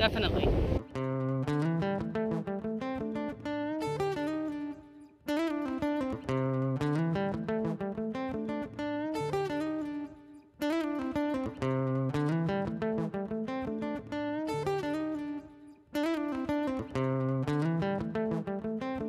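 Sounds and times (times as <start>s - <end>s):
guitar picking melody: 0.0s - 19.0s.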